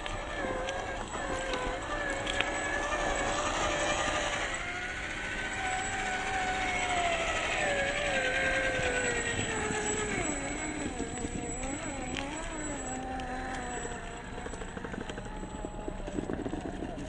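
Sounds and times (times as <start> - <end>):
rc truck motor whining: 0.0 - 17.0.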